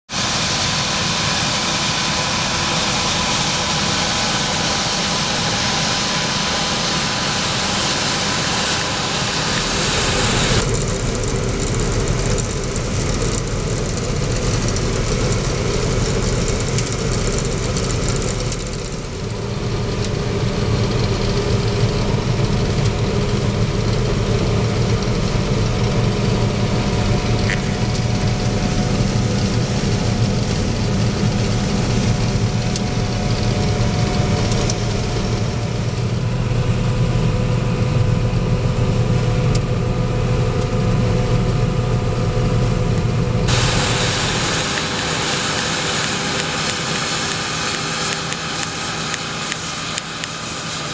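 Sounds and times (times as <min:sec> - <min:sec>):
combine harvester engine drone: 0:00.1 - 0:50.9.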